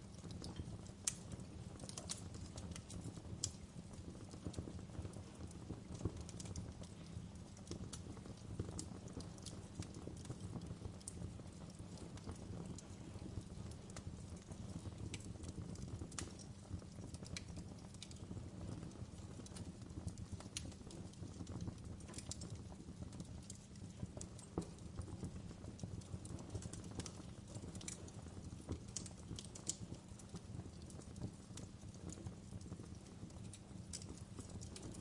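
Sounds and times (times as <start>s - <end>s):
fire low rumble: 0.0s - 35.0s
wood crackling and popping: 0.0s - 35.0s.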